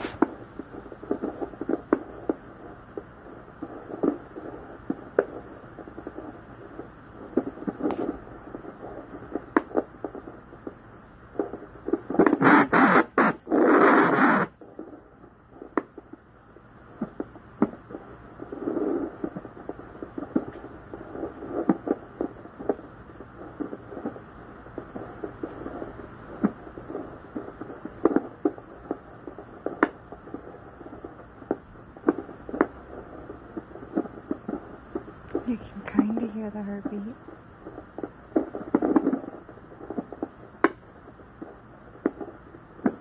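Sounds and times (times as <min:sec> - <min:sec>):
faint fetal heartbeat: 0:00.0 - 0:43.0.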